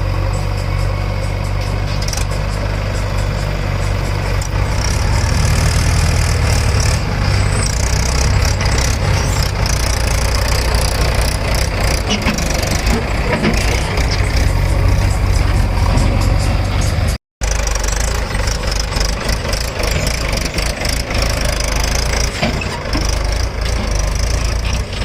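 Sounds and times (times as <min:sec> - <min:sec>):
heavy diesel engines throbbing: 0:00.0 - 0:25.0
knocks and clatter: 0:01.5 - 0:25.0.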